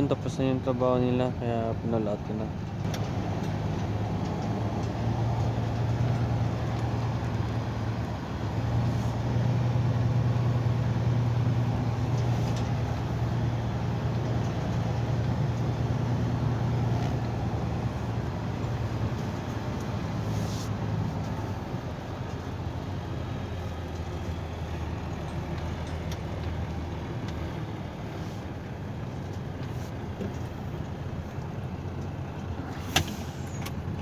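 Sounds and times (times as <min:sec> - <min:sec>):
truck engine droning: 0:00.0 - 0:34.0.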